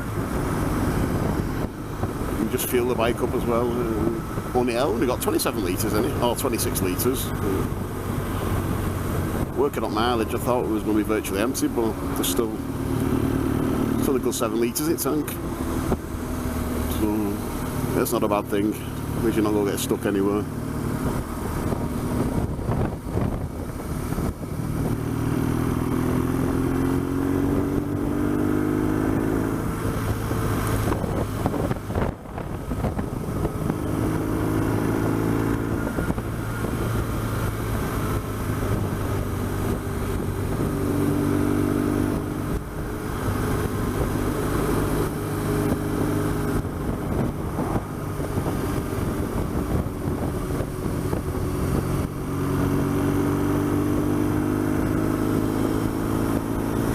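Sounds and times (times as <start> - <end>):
wind noise: 0.0 - 10.7, 20.5 - 56.9
motorcycle engine accelerating: 0.0 - 56.9.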